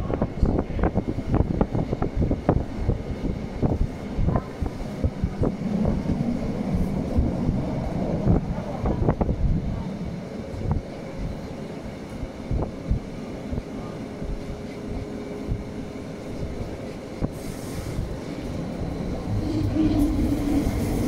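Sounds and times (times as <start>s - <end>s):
train rumble: 0.0s - 21.0s
wind: 0.0s - 21.0s.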